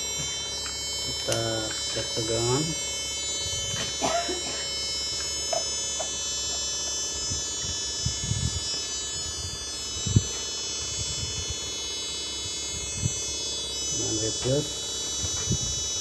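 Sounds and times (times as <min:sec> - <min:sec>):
high-pitched power supply squeal: 0:00.0 - 0:16.0.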